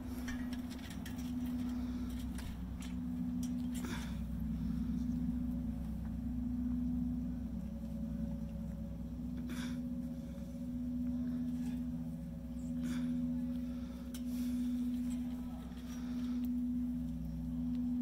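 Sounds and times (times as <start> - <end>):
low droning tone: 0.0 - 18.0.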